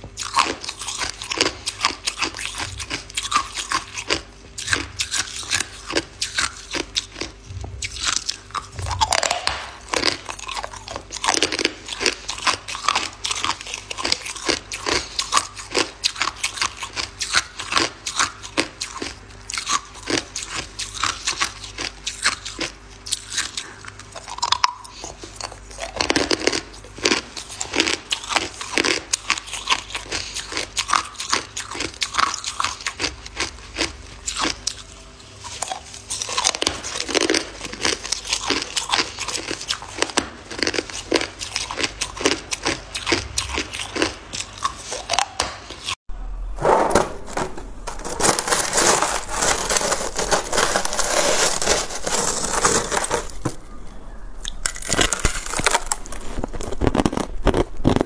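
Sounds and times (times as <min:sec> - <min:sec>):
ice being bitten and chewed: 0:00.1 - 0:46.0, 0:48.0 - 0:53.6, 0:54.4 - 0:58.0.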